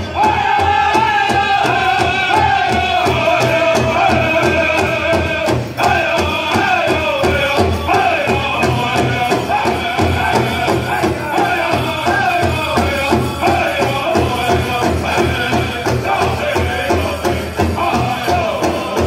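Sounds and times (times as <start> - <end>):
group singing: 0.0 - 19.0
large drum beating: 0.0 - 19.0.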